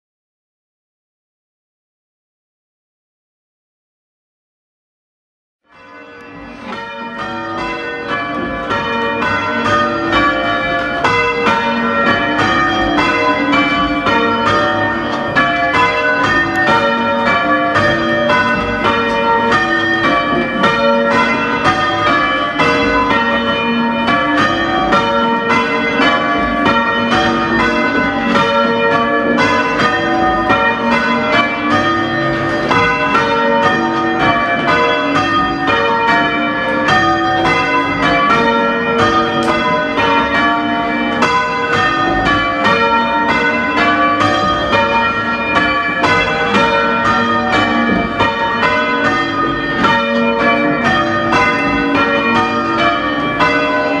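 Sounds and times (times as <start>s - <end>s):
church bells change-ringing: 5.7s - 54.0s.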